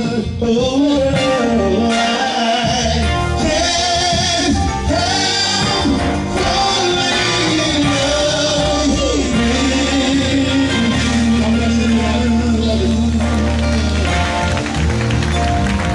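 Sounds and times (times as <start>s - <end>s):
live gospel song with band: 0.0s - 15.9s.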